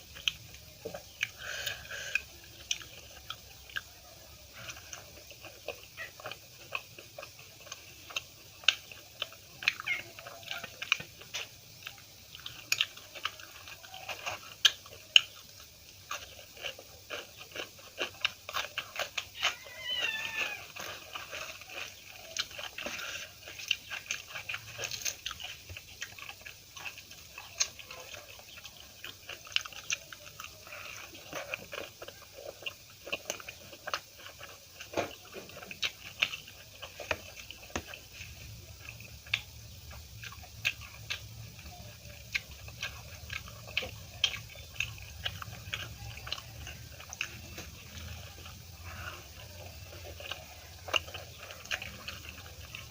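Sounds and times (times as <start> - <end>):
chewing with lip smacks: 0.0 - 52.9
crunchy bites: 0.0 - 52.9.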